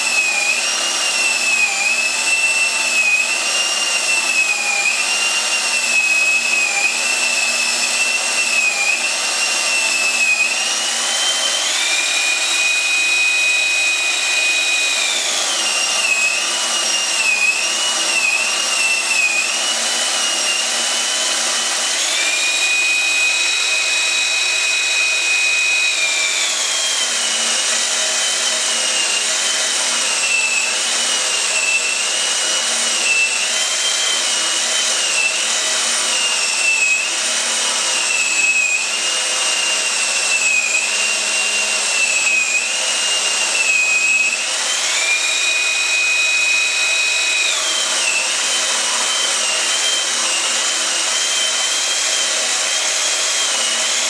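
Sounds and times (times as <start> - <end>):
electric drill motor whining: 0.0 - 54.0.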